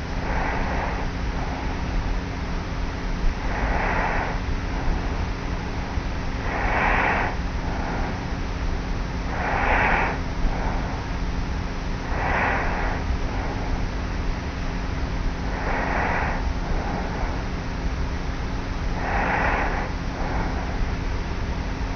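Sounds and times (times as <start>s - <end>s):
close-up breaths: 0.0s - 21.9s
tape hiss and hum: 0.0s - 21.9s.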